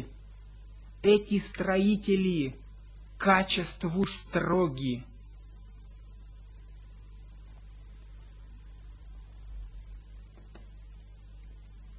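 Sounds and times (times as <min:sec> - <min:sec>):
electrical mains hum: 0:00.0 - 0:11.9.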